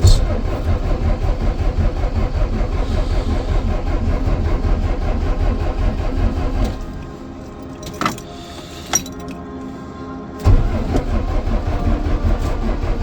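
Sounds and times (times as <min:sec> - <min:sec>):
starter motor cranking engine: 0:00.0 - 0:09.5, 0:10.4 - 0:13.0.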